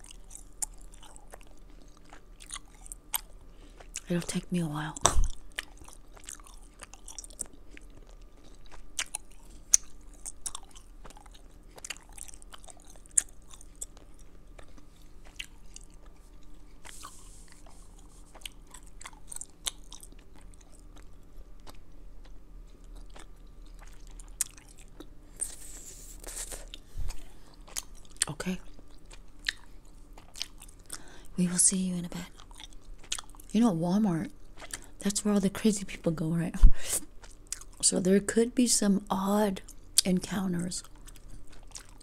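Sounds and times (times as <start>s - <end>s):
wet gum chewing: 0.0s - 31.3s, 32.0s - 33.6s, 34.2s - 35.2s, 37.1s - 37.9s, 40.8s - 42.0s.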